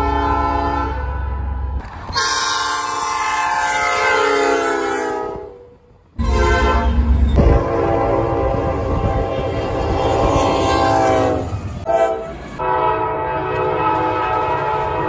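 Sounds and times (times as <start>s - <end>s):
locomotive air horn blasts: 0.0s - 15.0s
passing train rumble: 0.0s - 15.0s.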